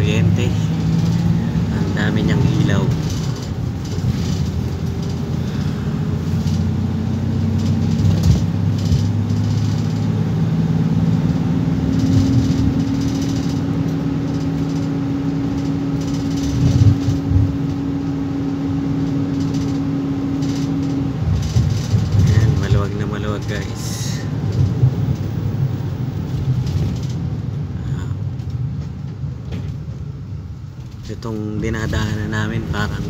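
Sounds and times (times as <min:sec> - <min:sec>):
vehicle engine and road hum: 0:00.0 - 0:33.0.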